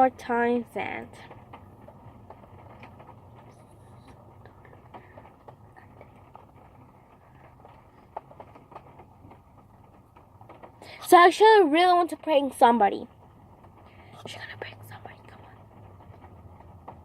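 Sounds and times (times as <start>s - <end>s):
low steady hum: 0.0s - 17.0s
raindrops tapping on car: 0.0s - 17.0s.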